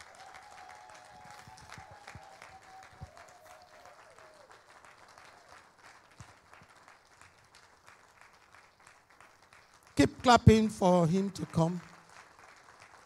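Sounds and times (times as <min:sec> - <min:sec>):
congregation applauding: 0:00.0 - 0:13.0.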